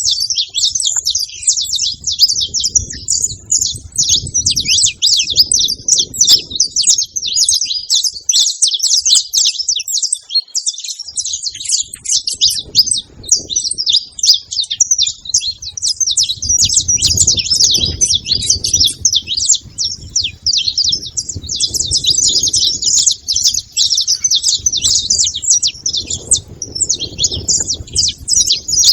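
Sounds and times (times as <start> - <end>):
finches chirping and singing: 0.0 - 28.9.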